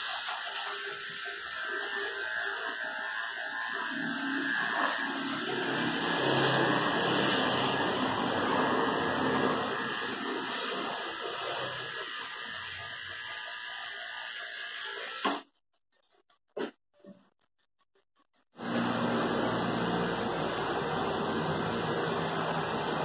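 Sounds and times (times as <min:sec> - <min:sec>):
electric pet clippers running: 0:00.0 - 0:15.4, 0:18.6 - 0:23.0.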